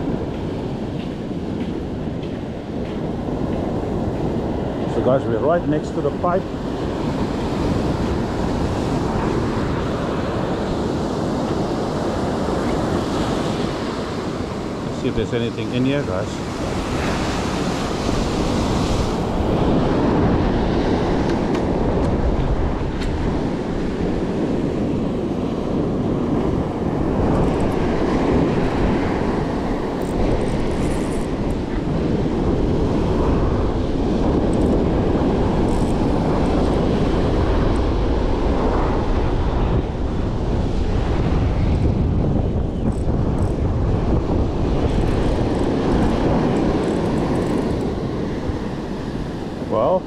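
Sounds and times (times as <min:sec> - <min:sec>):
wind on microphone: 0:00.0 - 0:50.0.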